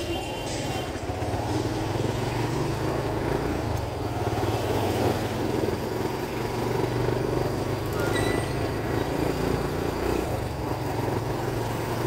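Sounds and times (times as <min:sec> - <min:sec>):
nearby traffic: 0:00.0 - 0:12.0
motorcycle engine running: 0:00.8 - 0:12.0.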